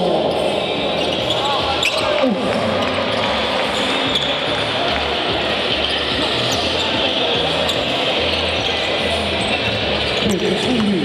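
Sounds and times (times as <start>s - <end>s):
din of large hall: 0.0s - 11.0s.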